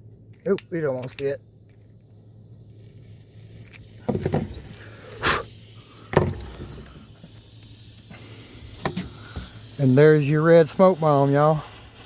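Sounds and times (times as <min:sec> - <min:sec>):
smoke bomb hissing bursts: 0:00.7 - 0:12.0.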